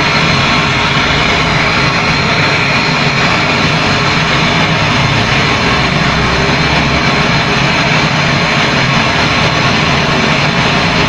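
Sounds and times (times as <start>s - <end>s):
brazing torch flame hissing: 0.0s - 11.0s
vacuum pump running: 0.0s - 11.0s.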